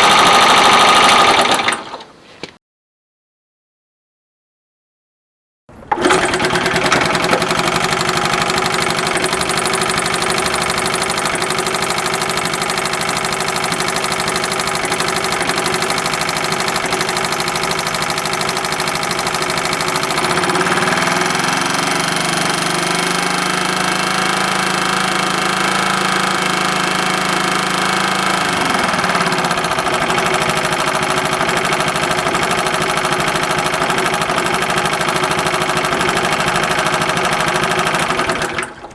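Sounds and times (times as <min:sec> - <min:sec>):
motor-driven machine running: 0:00.0 - 0:02.0, 0:05.9 - 0:38.9.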